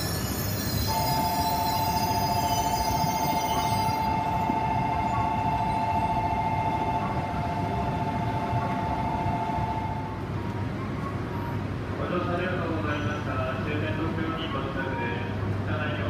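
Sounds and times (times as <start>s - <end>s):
train hum and rumble: 0.0s - 16.0s.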